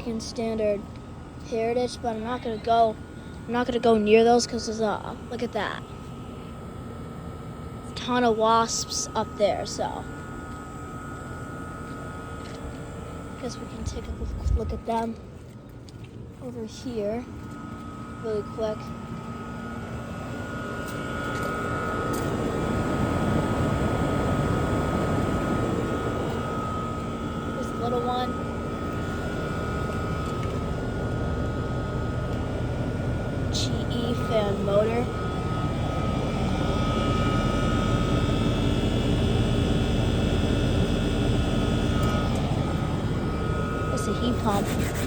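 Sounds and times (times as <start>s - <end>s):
air conditioner fans rushing: 0.0s - 45.0s
high whine: 0.0s - 45.0s
low hum: 0.0s - 45.0s.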